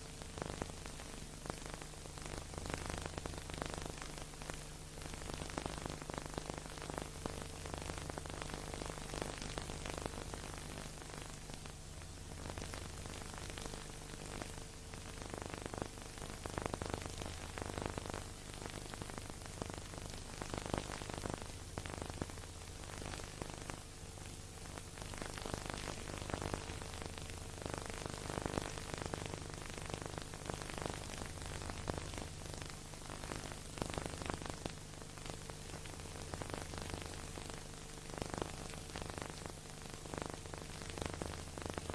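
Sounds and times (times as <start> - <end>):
film soundtrack hiss: 0.0 - 41.9
low steady hum: 0.0 - 41.9
record surface noise crackle: 0.0 - 41.9.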